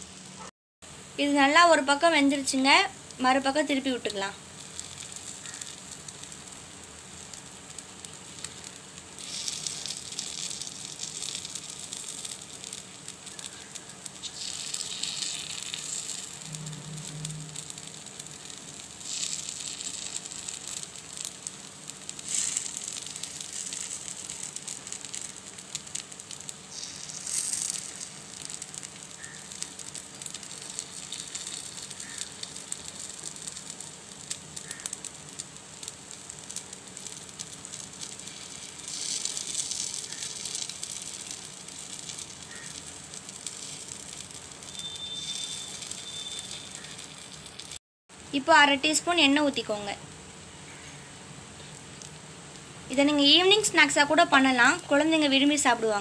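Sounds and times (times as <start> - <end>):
batter sizzling in hot oil: 0.0 - 50.3, 51.6 - 56.0.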